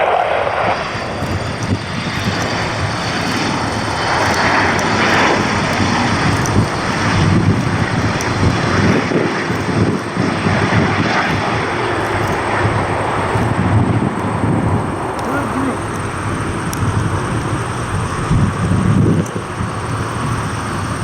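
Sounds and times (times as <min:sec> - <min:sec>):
aircraft engine roar: 0:00.0 - 0:21.0.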